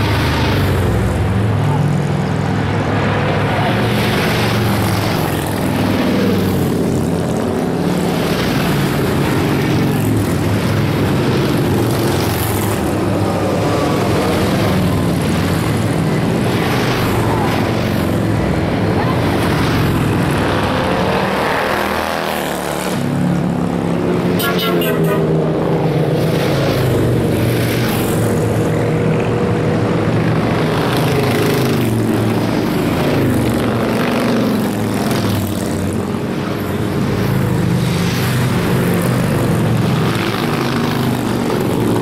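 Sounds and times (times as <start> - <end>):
motorcycles riding past: 0.0 - 42.0.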